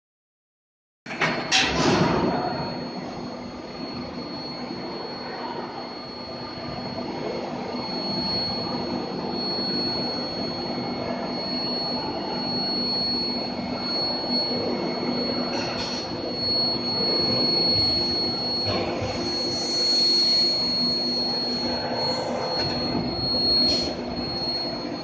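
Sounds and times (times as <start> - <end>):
low machine hum: 1.1 - 25.0
steady high whine: 1.1 - 25.0.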